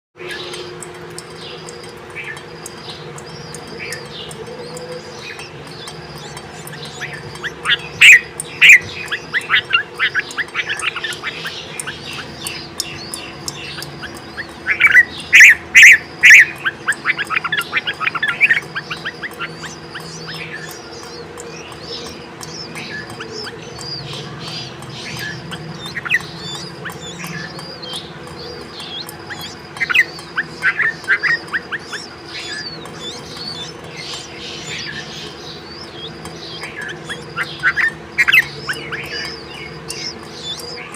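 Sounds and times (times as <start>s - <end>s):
birds chirping loudly: 0.2s - 40.9s
softer high bird calls: 0.2s - 40.9s.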